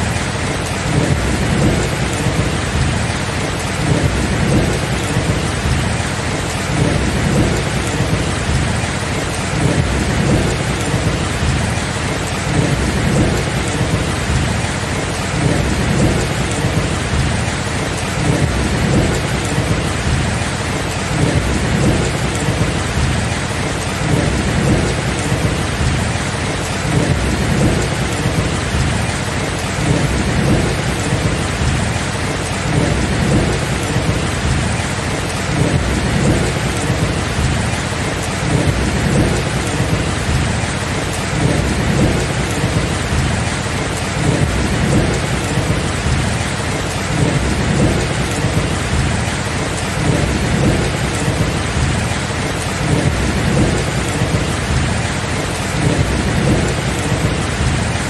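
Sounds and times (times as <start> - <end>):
steady rain: 0.0 - 58.0
low thunder rumble: 0.1 - 58.0.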